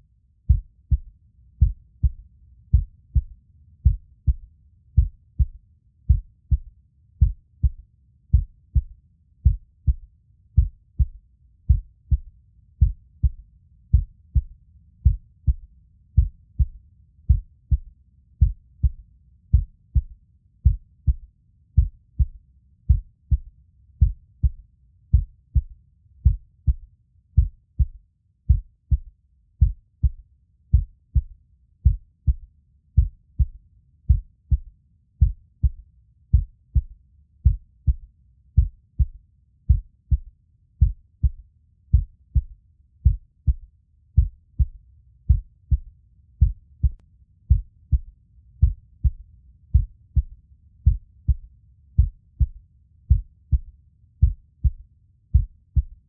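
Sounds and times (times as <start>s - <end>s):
heartbeat thumps: 0.5s - 56.0s.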